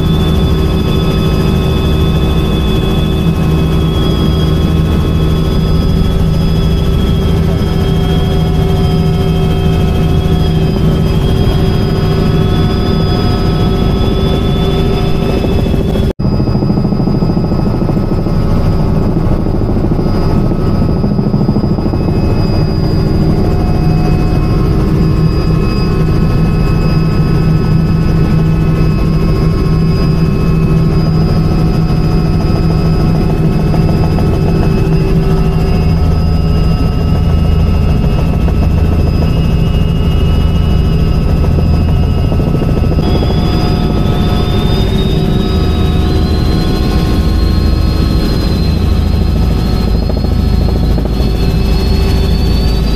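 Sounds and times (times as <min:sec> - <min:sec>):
helicopter rotor throbbing: 0:00.0 - 0:52.9
turbine engine whine: 0:00.0 - 0:52.9.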